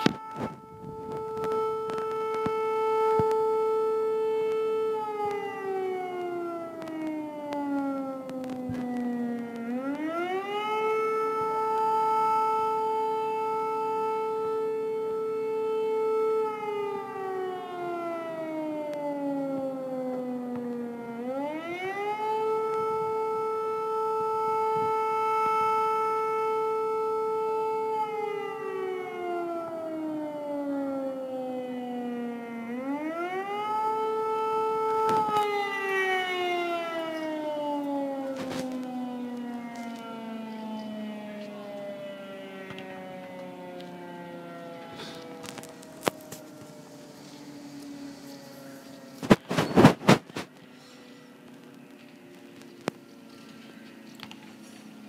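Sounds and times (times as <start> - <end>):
civil defence siren wailing: 0.0 - 55.0.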